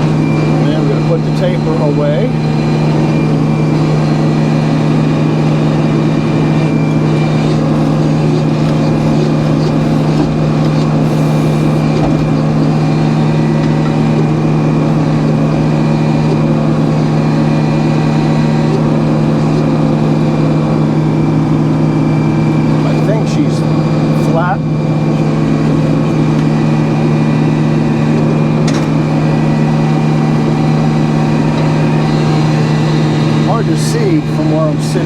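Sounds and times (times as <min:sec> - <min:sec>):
sawmill engine running: 0:00.0 - 0:35.0.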